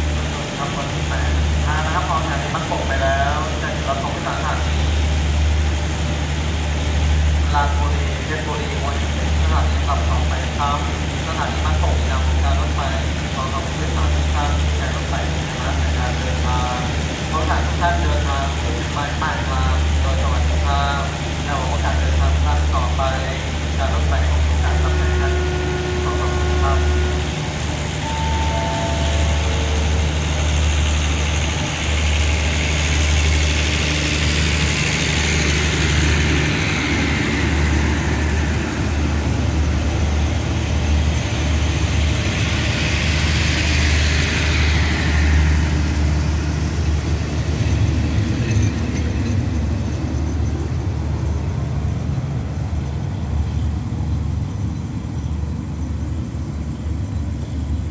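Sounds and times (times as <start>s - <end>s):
train rumbling past: 0.0s - 57.9s.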